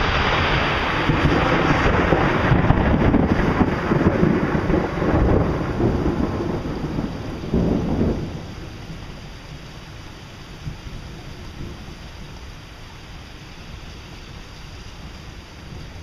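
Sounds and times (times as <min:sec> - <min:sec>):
rain hissing: 0:00.0 - 0:16.0
thunder rumbling: 0:00.0 - 0:16.0.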